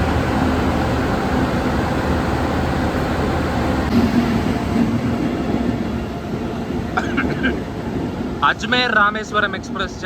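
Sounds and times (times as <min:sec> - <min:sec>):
trains and diesel engines rumbling: 0:00.0 - 0:10.0.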